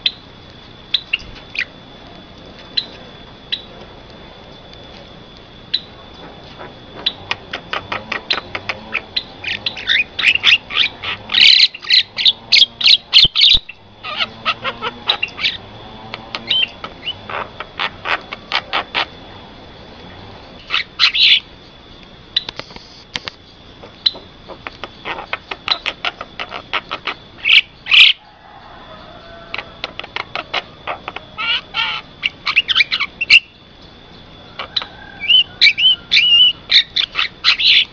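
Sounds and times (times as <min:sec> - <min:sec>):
myna clicking and chattering: 0:00.3 - 0:27.4, 0:29.5 - 0:32.9.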